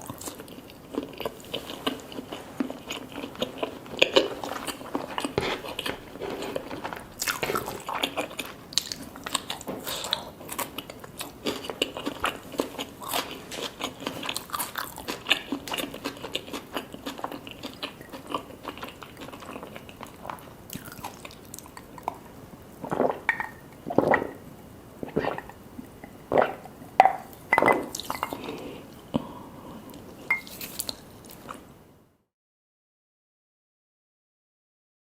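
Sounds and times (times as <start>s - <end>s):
person chewing: 0.0s - 24.4s, 25.0s - 31.6s.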